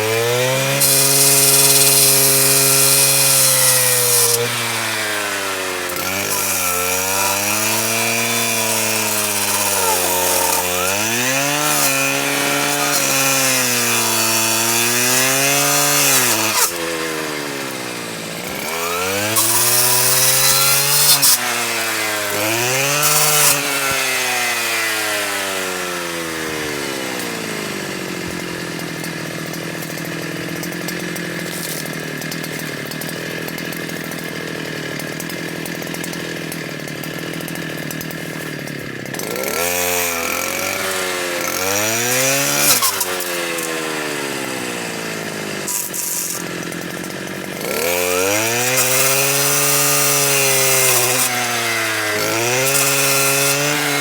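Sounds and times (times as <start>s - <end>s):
brushcutter engine revving: 0.0s - 54.0s
saw blade rasping cuts: 0.0s - 54.0s.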